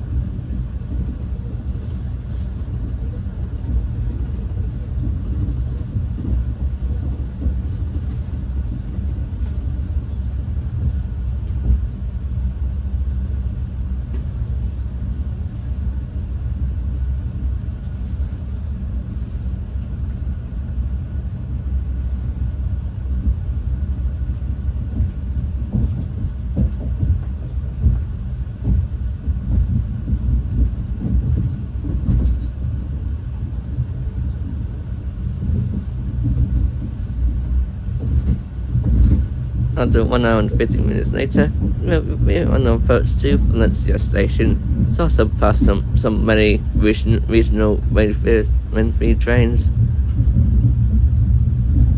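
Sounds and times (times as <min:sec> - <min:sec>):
train rumbling from on board: 0:00.0 - 0:51.9.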